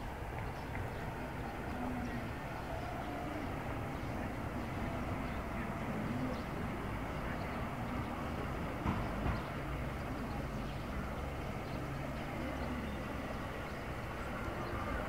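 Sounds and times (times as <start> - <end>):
distant engine rumble: 0.0 - 15.0.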